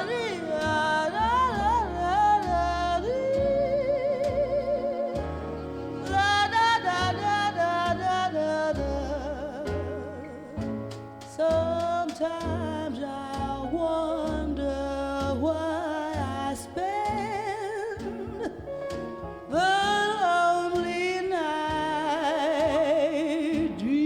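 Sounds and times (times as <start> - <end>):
musical accompaniment: 0.0 - 24.0
woman singing jazz: 0.0 - 24.0.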